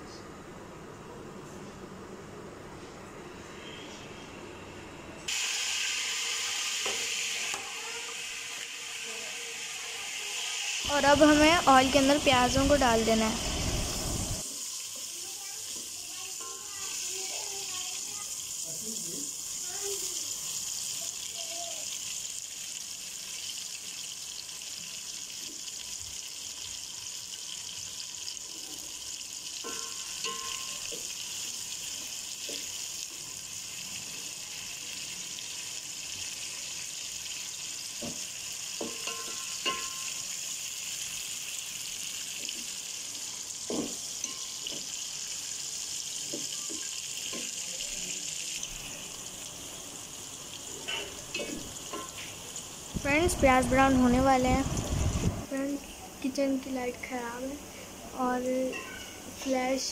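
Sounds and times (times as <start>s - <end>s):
onions sizzling in hot oil: 5.3s - 59.9s.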